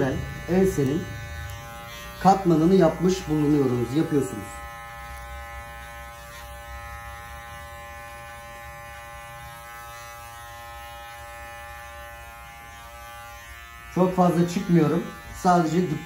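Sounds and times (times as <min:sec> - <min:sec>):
electric hair clipper buzzing: 0:00.0 - 0:16.0.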